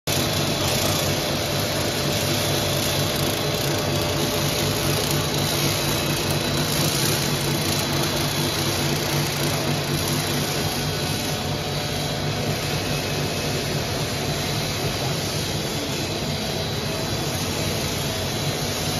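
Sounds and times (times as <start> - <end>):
machine mechanical hum: 0.1 - 18.9.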